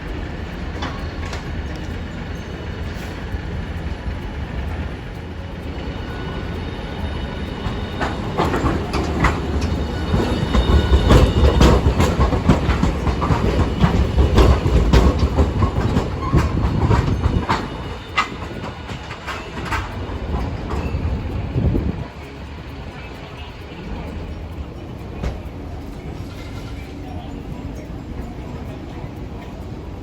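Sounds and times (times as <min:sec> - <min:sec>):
streetcar low rumble: 0:00.0 - 0:30.0
streetcar wheels clacking: 0:00.0 - 0:30.0.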